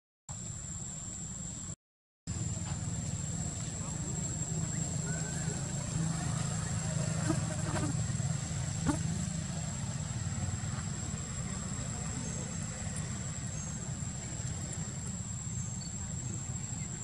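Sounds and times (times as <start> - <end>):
low engine-like rumble: 2.3 - 17.0.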